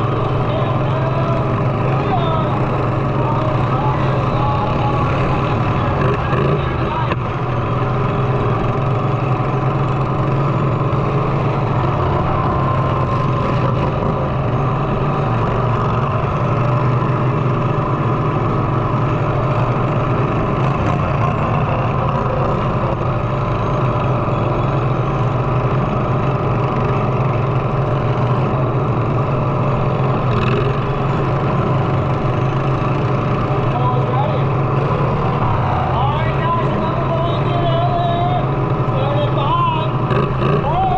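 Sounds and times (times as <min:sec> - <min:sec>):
lawnmower engines running: 0:00.0 - 0:40.9.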